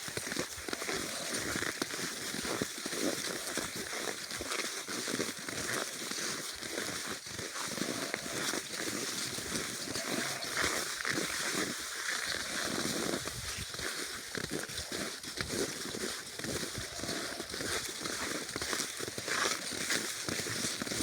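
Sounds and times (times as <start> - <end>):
snow crunching under skis: 0.1 - 21.0.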